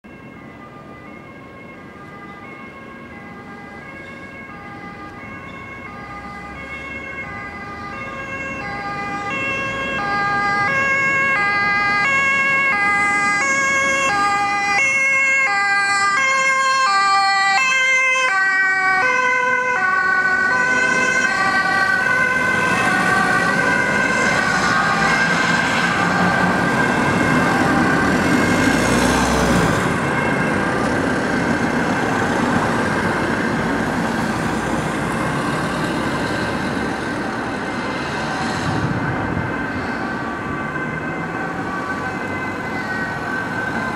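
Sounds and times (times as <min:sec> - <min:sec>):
ambulance two-tone siren: 0:00.0 - 0:43.9
vehicle and tyre noise: 0:00.0 - 0:43.9.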